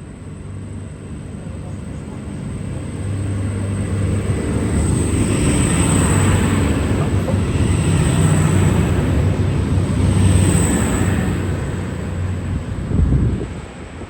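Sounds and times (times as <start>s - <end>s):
diesel railcar engines humming: 0.0s - 14.0s.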